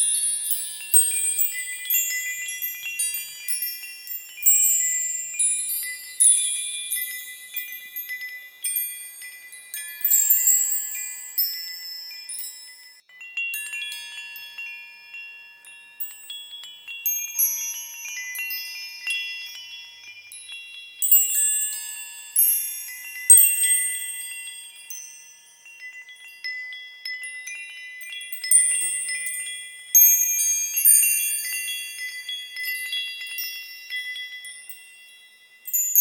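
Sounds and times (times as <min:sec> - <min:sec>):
small metal chimes tinkling: 0:00.0 - 0:36.0.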